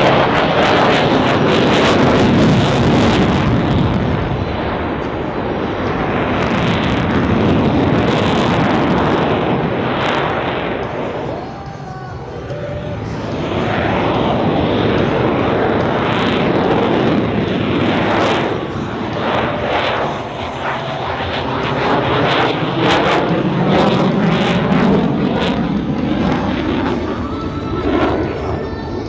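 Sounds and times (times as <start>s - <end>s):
jet engines flying by: 0.0s - 29.0s.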